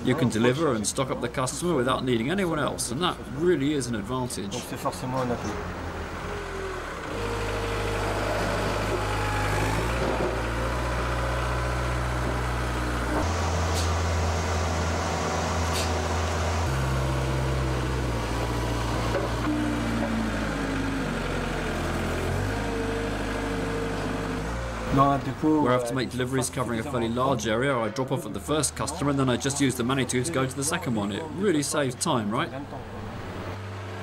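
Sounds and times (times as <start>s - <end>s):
forklift engine running: 0.0s - 34.0s.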